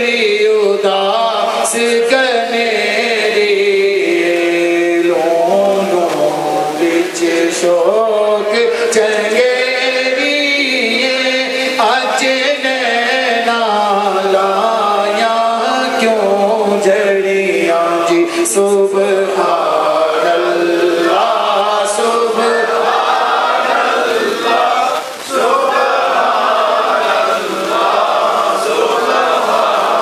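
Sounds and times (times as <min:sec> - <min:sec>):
man singing into a microphone: 0:00.0 - 0:26.2.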